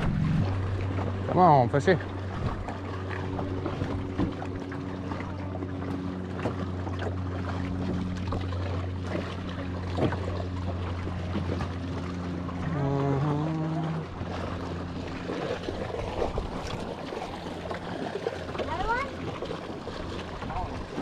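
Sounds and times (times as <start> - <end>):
small boat motor humming: 0.0 - 21.0.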